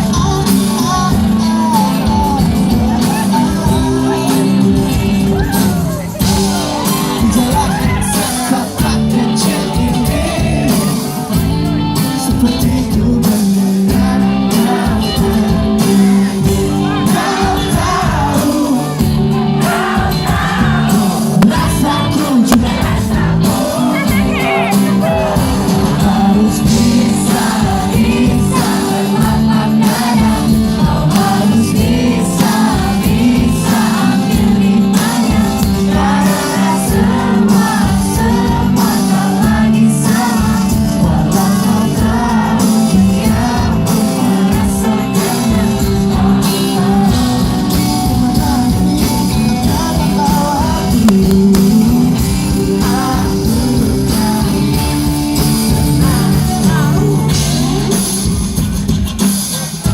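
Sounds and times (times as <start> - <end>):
person singing: 0.0 - 59.9
pop-rock band playing live: 0.0 - 59.9.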